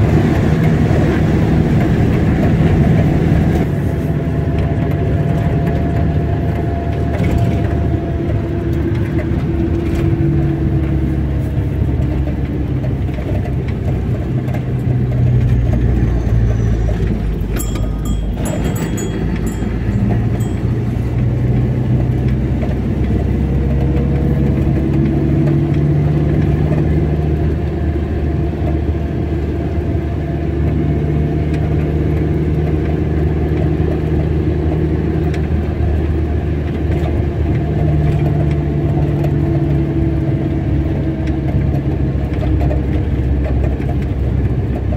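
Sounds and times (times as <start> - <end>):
car engine hum: 0.0 - 44.9
road noise: 0.0 - 44.9.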